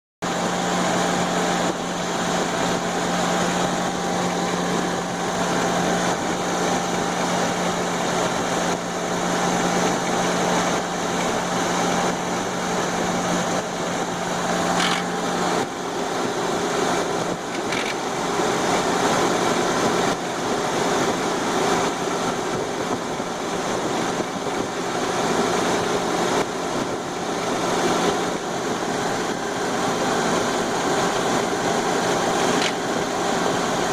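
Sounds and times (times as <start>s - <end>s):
car engine running: 0.2s - 33.9s
noise from top of engine: 0.2s - 33.9s.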